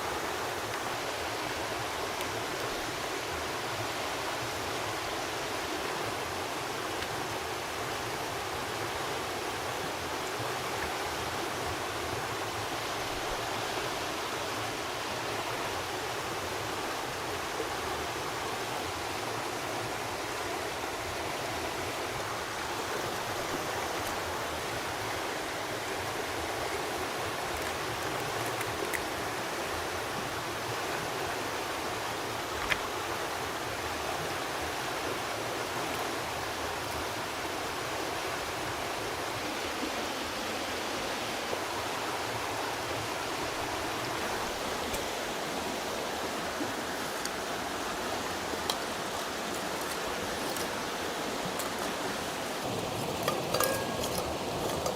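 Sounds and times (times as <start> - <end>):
stream rushing: 0.0 - 54.9.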